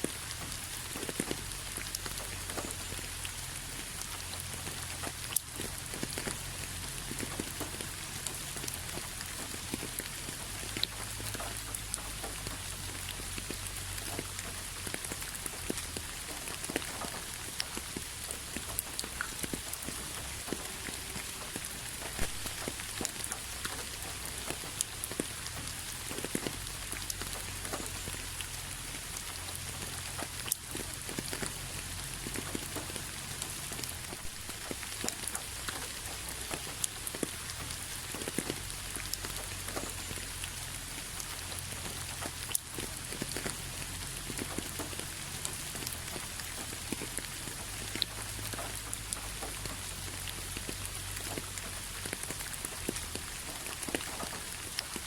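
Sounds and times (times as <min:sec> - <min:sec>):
raindrops ticking on hard surface: 0:00.0 - 0:55.0.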